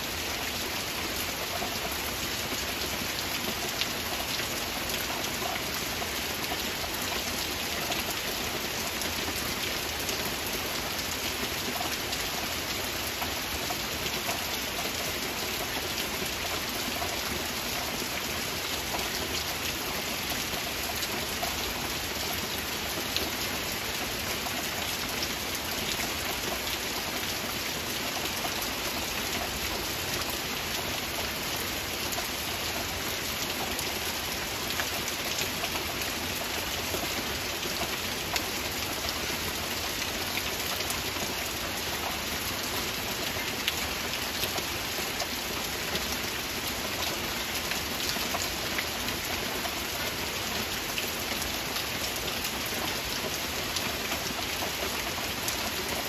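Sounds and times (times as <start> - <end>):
heavy rain: 0.0 - 56.0
raindrops striking close by: 0.0 - 56.0.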